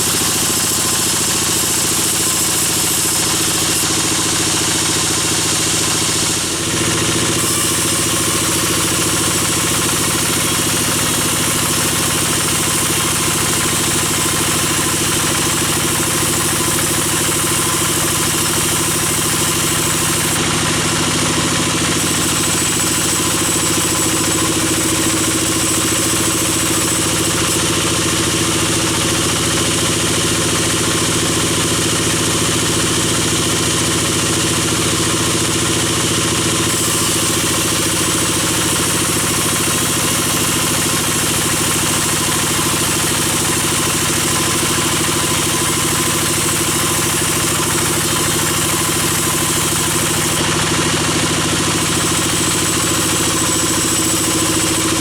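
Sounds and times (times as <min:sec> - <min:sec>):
bandsaw machinery droning: 0:00.0 - 0:55.0.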